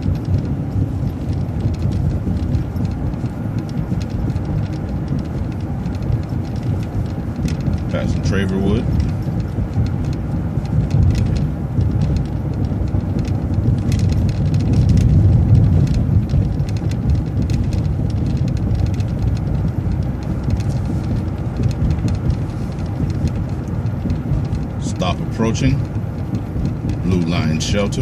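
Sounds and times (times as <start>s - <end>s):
bus engine and road rumble: 0.0s - 28.0s
light rattles and clicks: 0.0s - 28.0s.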